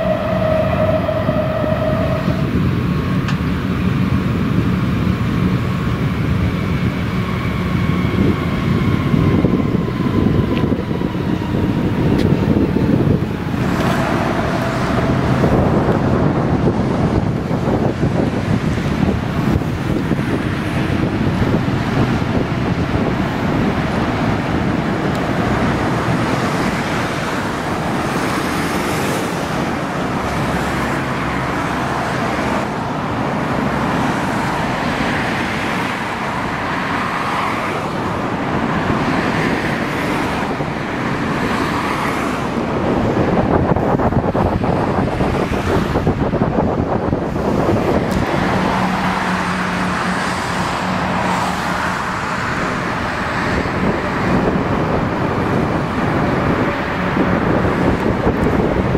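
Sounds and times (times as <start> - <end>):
road traffic: 0.0 - 58.9
trains rumbling over bridge: 0.0 - 58.9
wind on microphone: 0.0 - 58.9.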